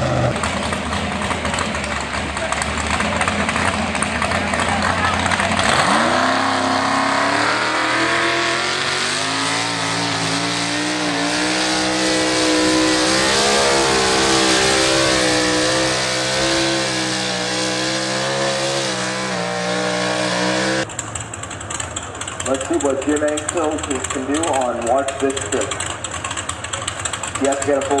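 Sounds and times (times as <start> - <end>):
tractor engine revving: 0.0 - 28.0.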